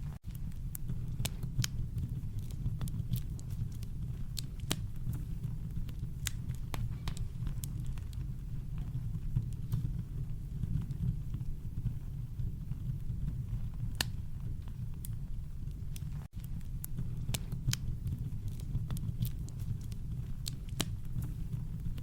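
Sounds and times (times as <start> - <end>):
campfire crackling: 0.0 - 22.0
low rumble of brown noise: 0.0 - 22.0.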